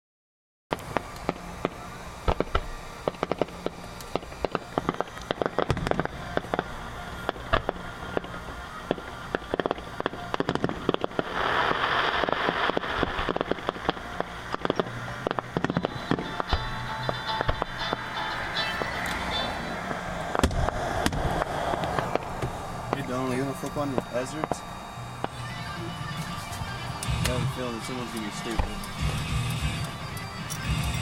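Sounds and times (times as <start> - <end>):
dense crackling: 0.7 - 31.0
fireworks popping: 0.7 - 31.0.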